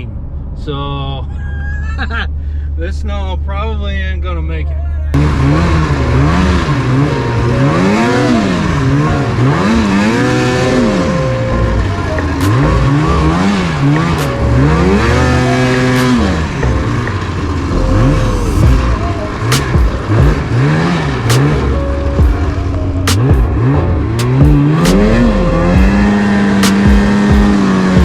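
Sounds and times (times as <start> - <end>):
snowmobile engine revving: 5.1 - 28.0.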